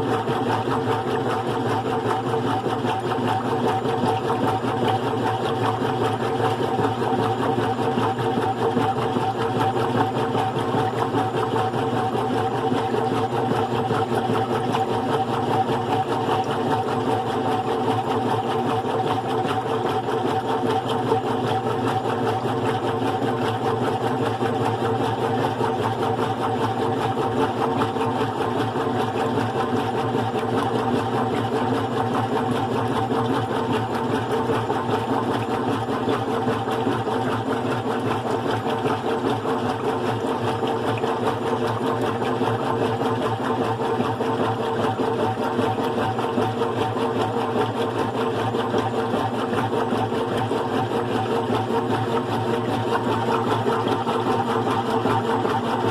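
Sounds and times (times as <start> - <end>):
washing machine motor hum: 0.0 - 55.9.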